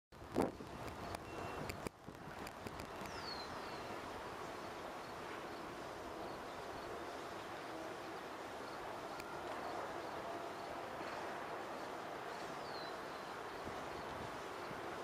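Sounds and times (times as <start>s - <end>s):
outdoor background noise: 0.1s - 15.0s.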